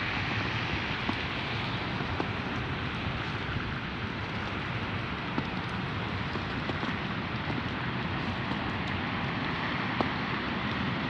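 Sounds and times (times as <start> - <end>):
rain-like street hiss: 0.0 - 11.0.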